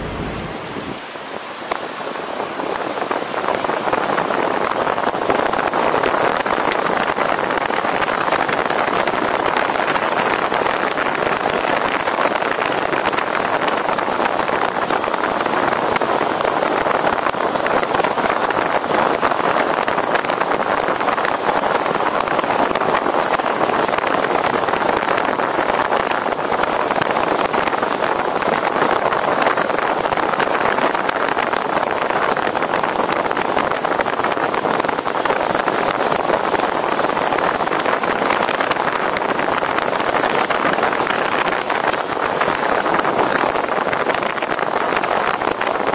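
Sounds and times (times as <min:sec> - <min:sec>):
tyre and road noise: 0:00.0 - 0:45.9
wind on microphone: 0:00.0 - 0:45.9.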